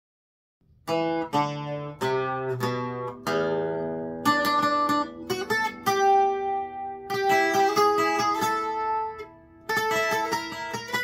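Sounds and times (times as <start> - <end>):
twelve-string acoustic guitar picking: 0.8 - 11.0.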